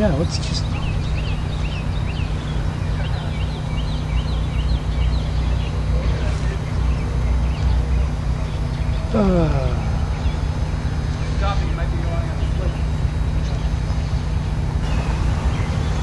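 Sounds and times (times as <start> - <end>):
diesel locomotive engine rumble: 0.0 - 16.0
small bird chirping: 0.0 - 16.0.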